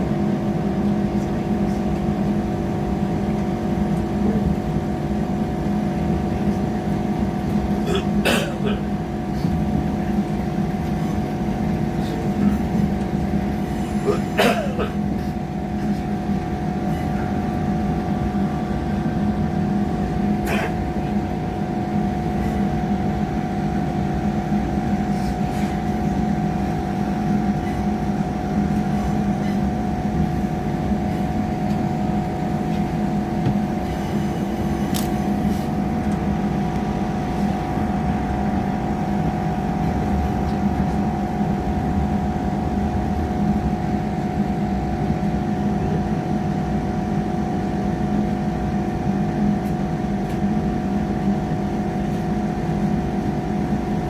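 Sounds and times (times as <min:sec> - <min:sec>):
train diesel engine humming: 0:00.0 - 0:54.0.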